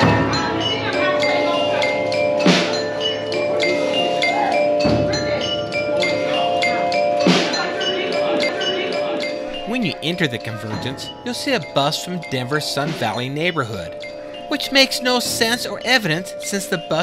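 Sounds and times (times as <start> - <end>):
ringing struck notes: 0.0 - 17.0.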